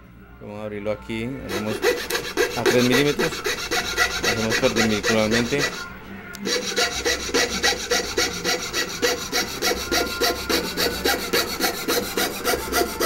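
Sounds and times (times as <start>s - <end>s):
coping saw cutting wood: 1.5s - 13.0s.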